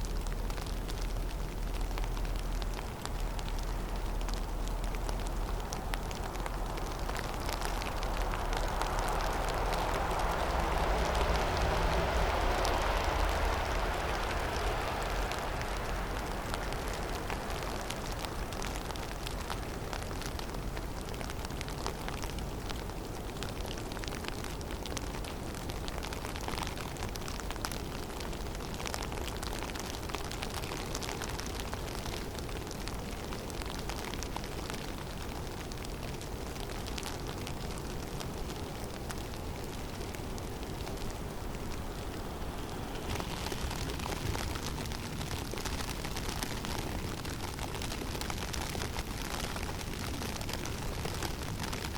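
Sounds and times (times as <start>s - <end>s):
snow and ice ticking: 0.0s - 51.9s
wind rushing through trees: 0.0s - 51.9s.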